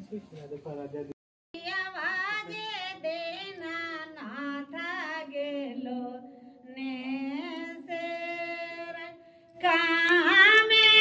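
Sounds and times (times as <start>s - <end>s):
woman singing devotional song: 1.6s - 11.0s.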